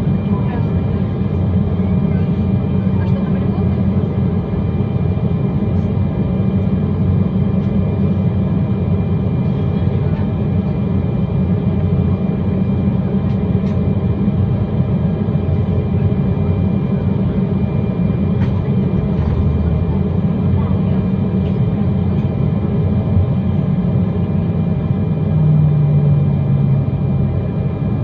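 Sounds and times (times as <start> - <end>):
aircraft cabin engine rumble: 0.0 - 28.0.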